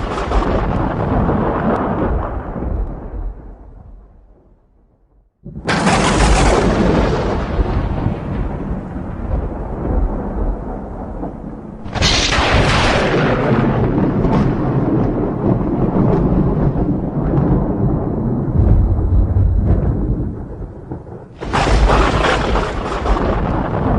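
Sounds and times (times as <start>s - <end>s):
thunder cracking and rumbling: 0.0s - 23.9s.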